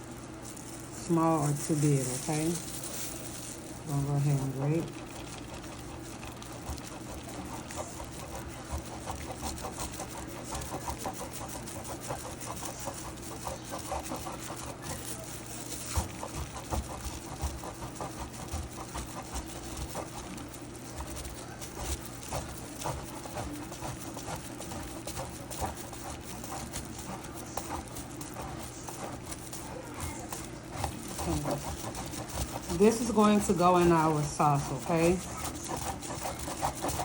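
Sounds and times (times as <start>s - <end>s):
cheese grating on box grater: 0.0s - 37.0s
steady low hum: 0.0s - 37.0s.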